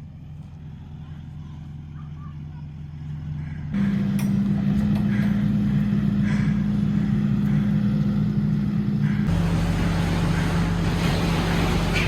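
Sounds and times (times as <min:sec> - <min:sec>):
skid steer engine at high throttle: 0:00.0 - 0:12.0.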